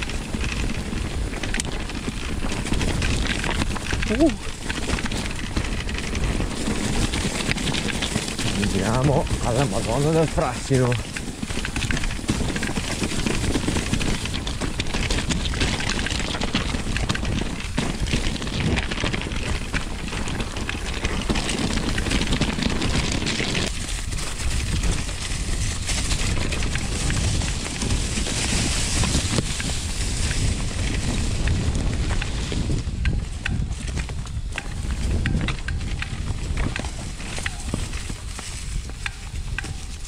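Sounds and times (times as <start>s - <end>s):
bike rattling: 0.0s - 40.0s
bike tyres on dirt: 0.0s - 40.0s
wind buffeting microphone: 0.0s - 40.0s.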